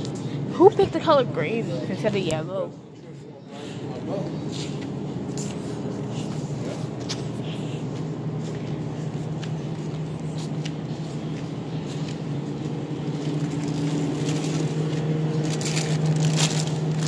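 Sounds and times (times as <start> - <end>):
refrigeration and ventilation hum: 0.0 - 17.0.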